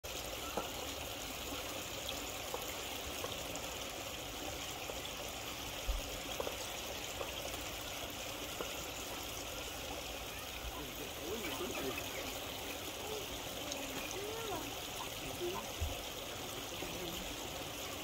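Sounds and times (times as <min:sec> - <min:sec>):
running water hissing: 0:00.0 - 0:18.0.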